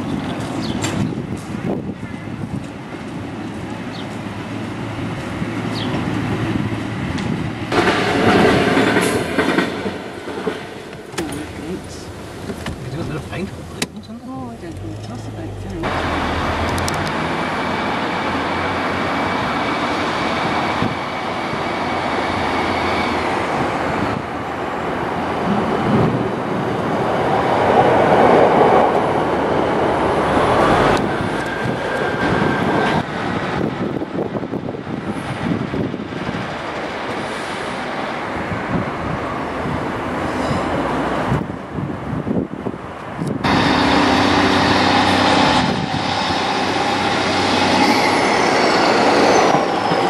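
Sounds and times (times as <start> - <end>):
diesel train passing: 0.0 - 50.0.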